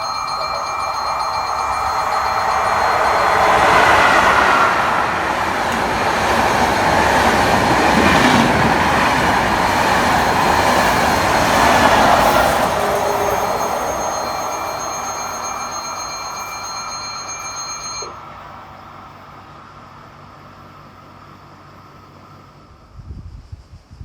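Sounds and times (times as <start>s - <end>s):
train wheels rushing on rails: 0.0s - 22.6s.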